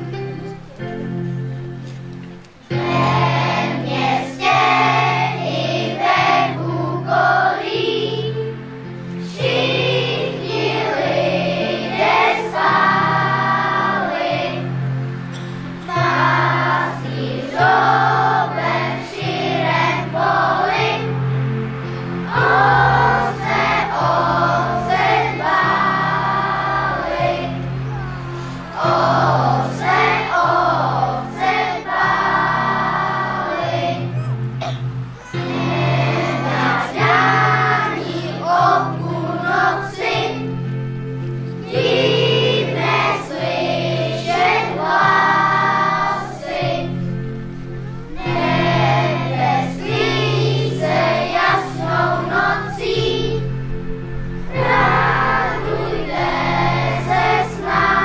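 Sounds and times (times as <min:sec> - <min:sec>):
children's choir singing: 0:00.0 - 0:02.0, 0:02.6 - 0:58.0
instrumental accompaniment: 0:00.0 - 0:58.0.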